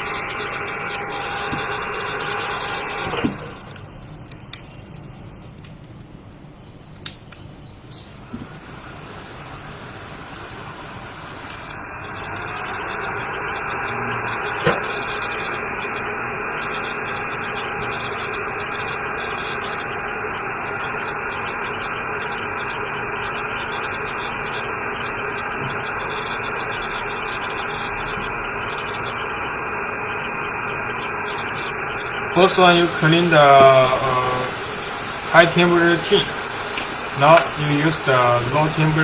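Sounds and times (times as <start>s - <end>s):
hot air station blowing: 0.0s - 3.9s, 8.2s - 39.0s.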